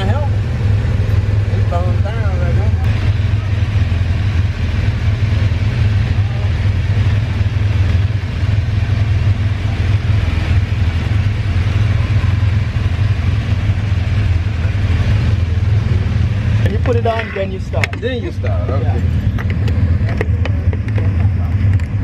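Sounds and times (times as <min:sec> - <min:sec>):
buggy engine idling: 0:00.0 - 0:22.0
quad bike engines: 0:00.0 - 0:22.0.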